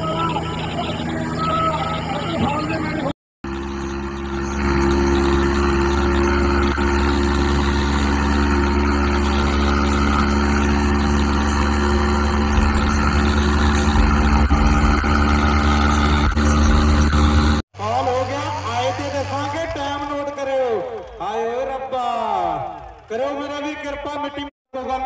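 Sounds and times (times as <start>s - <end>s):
tractor diesel engine running: 0.0s - 20.8s.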